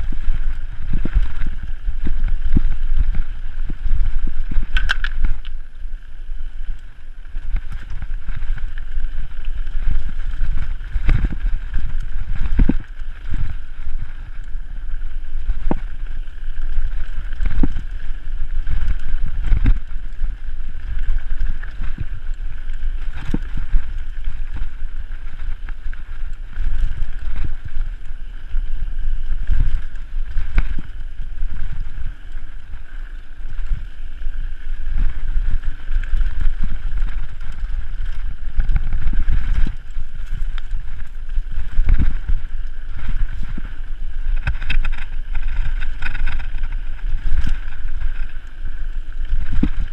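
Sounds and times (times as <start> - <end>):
bike knocking and rattling: 0.0 - 49.9
wind buffeting microphone: 0.0 - 49.9.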